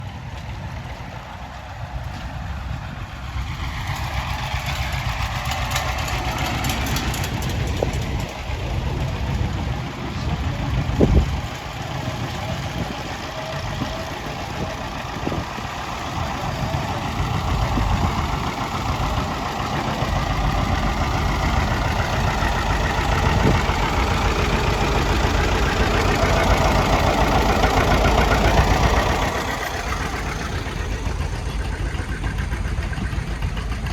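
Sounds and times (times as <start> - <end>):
tractor engines driving past: 0.0 - 33.9.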